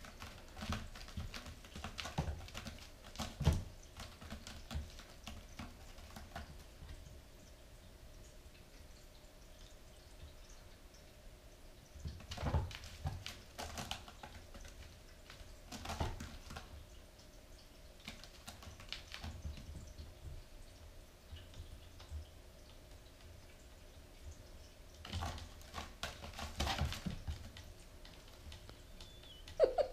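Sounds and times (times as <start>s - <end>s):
kitten paws clicking and scuffling: 0.0s - 7.2s, 12.0s - 29.6s.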